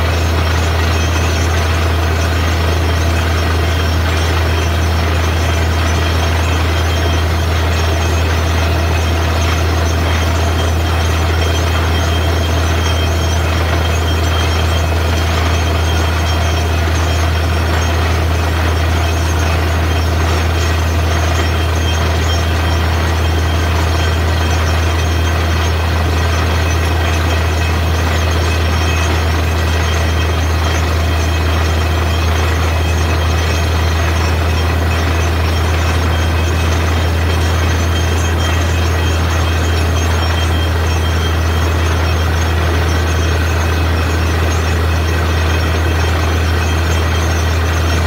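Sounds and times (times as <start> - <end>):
drilling rig machine drone: 0.0 - 48.0.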